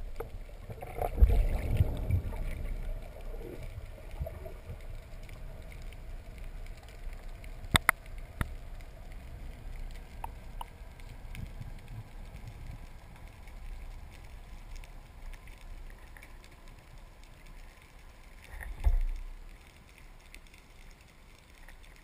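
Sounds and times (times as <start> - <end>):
faint clicks: 0.0 - 22.0
underwater rumble: 0.0 - 22.0.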